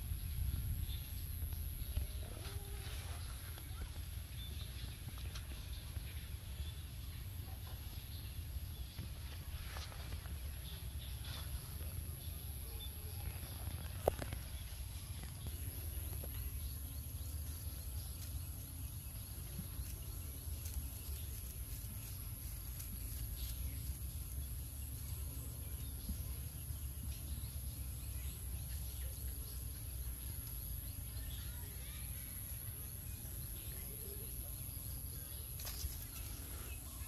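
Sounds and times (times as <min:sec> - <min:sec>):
faint ticks and rustles: 0:00.8 - 0:32.0, 0:34.8 - 0:37.0.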